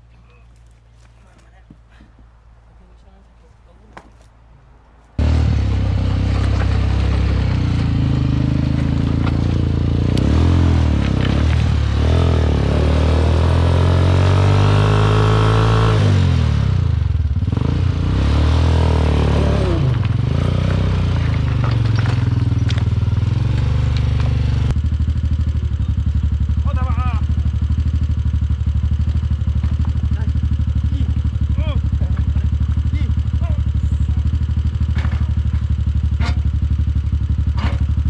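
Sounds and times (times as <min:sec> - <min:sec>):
quad bike engine revving: 0:05.2 - 0:38.0.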